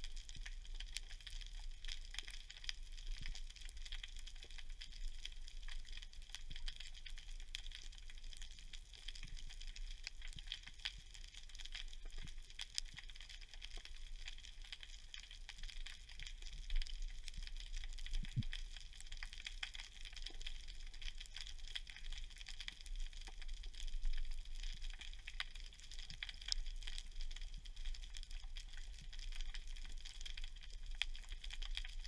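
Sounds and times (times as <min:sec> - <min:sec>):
low underwater rumble: 0:00.0 - 0:26.8
crackle of snapping shrimp: 0:00.0 - 0:32.0.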